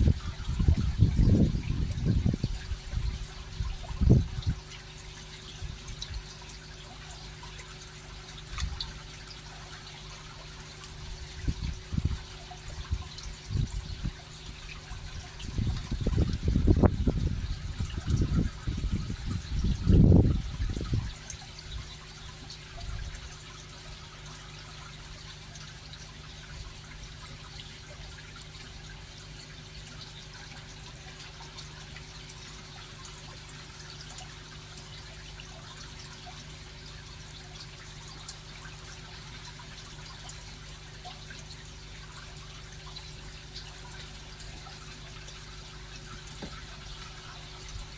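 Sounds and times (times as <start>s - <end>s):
low steady hum: 0.0s - 47.9s
water drips and splashes: 0.0s - 47.9s
water trickling: 0.0s - 47.9s.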